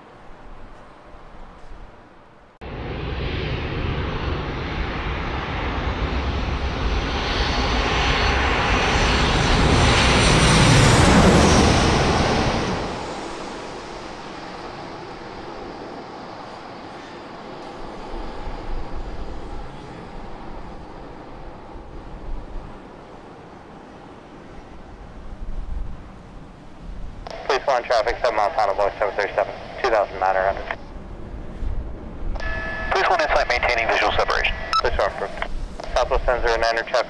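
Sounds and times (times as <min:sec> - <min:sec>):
jet engine whine: 0:00.0 - 0:37.0
jet airliner passing overhead: 0:02.6 - 0:37.0.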